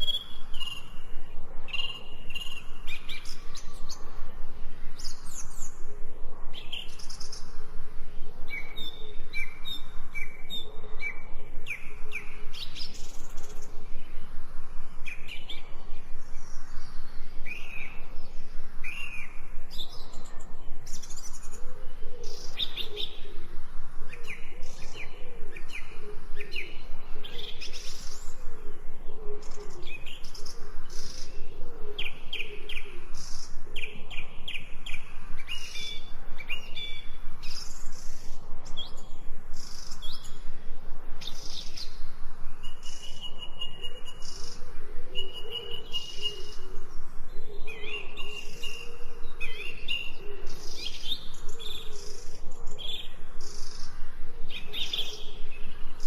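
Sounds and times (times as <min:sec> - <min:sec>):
songbirds chirping and singing: 0:00.0 - 0:56.0
steady background hiss: 0:00.0 - 0:56.0.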